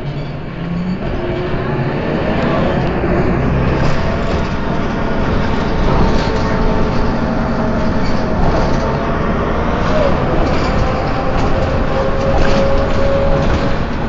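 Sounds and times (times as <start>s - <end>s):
bus engine hum: 0.0s - 14.0s
road noise: 0.0s - 14.0s.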